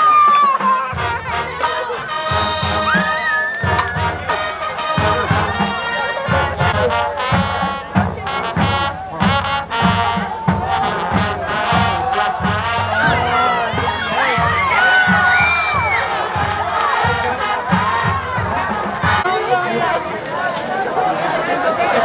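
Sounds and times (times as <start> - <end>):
steady drum beat: 0.0 - 19.5
brass band playing: 0.0 - 22.0.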